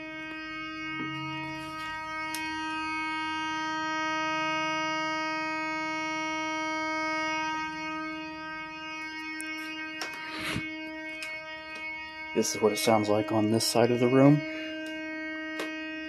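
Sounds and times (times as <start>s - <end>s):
synthesizer buzzy horn tone: 0.0s - 16.0s.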